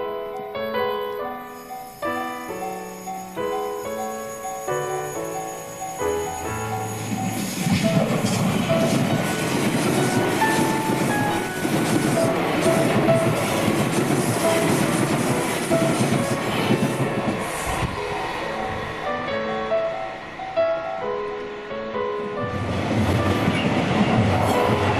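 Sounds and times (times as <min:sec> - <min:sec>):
electric train passing: 0:00.0 - 0:24.9.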